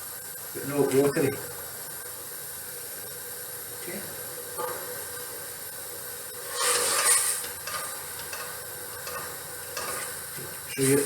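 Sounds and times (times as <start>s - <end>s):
boiling liquid hissing: 0.0s - 11.0s
sizzling hiss: 0.0s - 11.0s.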